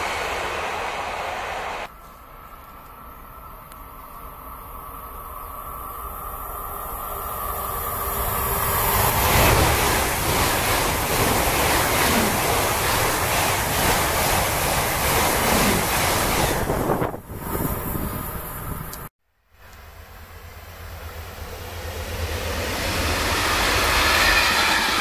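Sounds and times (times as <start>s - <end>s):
electric train passing at speed: 0.0s - 25.0s.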